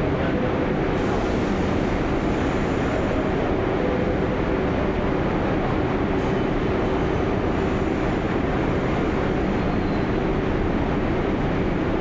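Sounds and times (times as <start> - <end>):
subway train rumble and hiss: 0.0 - 12.0.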